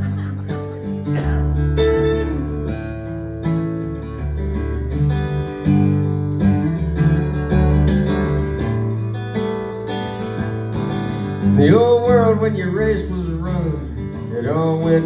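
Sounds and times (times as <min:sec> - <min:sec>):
low bass notes: 0:00.0 - 0:15.0
strummed guitar chords: 0:00.0 - 0:15.0.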